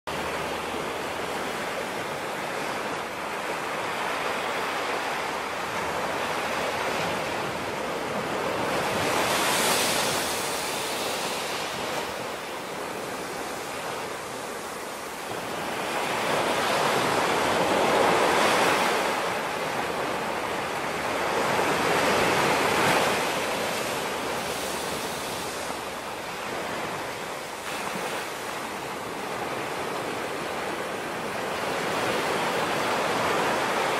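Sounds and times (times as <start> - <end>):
waves washing on beach: 0.1 - 33.9.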